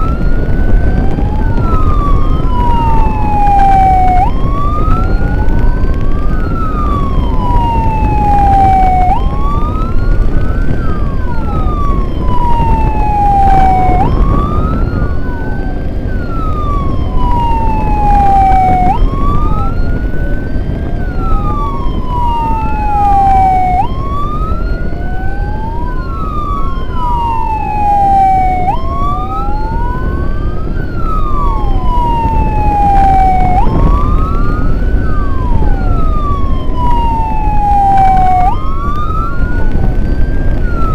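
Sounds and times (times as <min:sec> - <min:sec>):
ambulance sirens wailing: 0:00.0 - 0:40.9
vehicles rumbling: 0:00.0 - 0:40.9
wind: 0:00.0 - 0:40.9.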